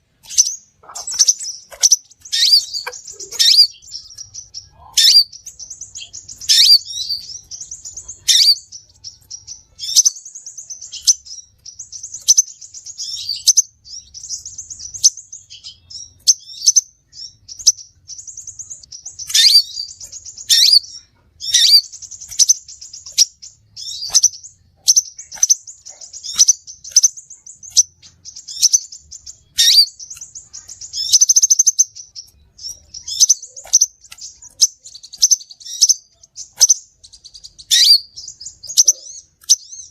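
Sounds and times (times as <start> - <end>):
rapid buzzy bird trills: 0.0 - 39.9.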